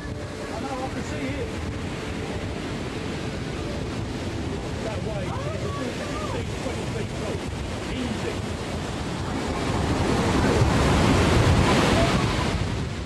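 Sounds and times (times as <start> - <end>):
roaring surge of water pouring ashore: 0.0 - 13.0
wind buffeting microphone: 0.0 - 13.0.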